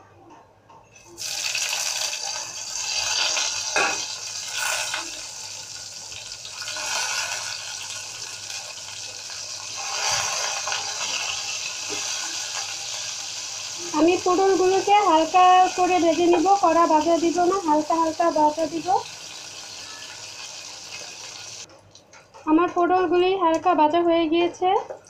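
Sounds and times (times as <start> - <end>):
vegetables sizzling in hot oil: 1.2 - 21.7.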